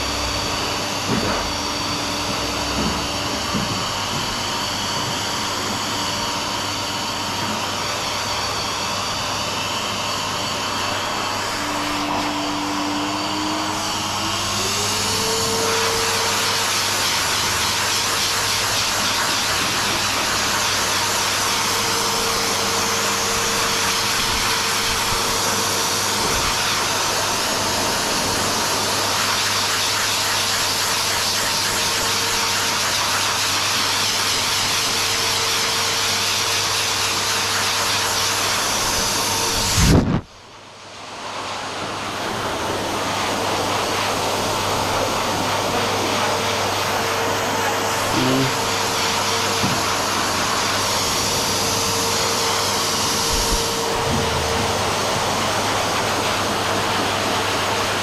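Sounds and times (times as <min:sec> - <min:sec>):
pet dryer blowing air: 0:00.0 - 0:58.0.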